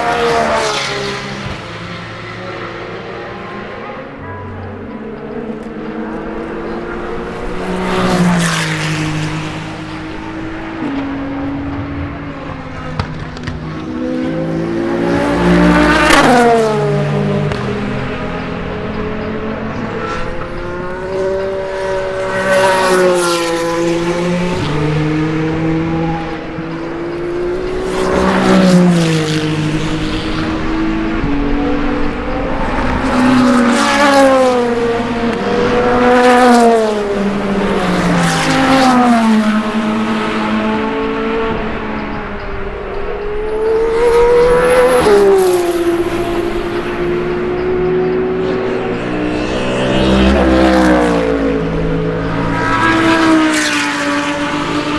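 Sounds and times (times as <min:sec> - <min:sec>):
race cars passing at speed: 0:00.0 - 0:54.9.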